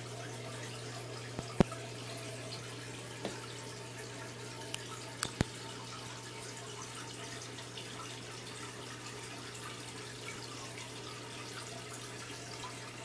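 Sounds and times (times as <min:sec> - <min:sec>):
pump humming: 0:00.0 - 0:13.0
water trickling and bubbling: 0:00.0 - 0:13.0.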